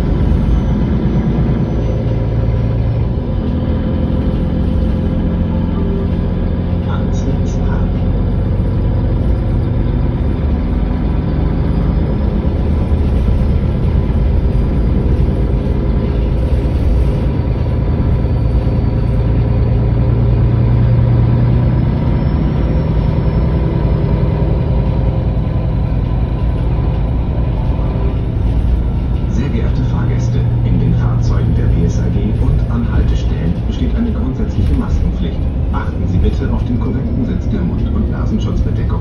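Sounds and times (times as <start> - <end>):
bus diesel engine hum: 0.0 - 39.0.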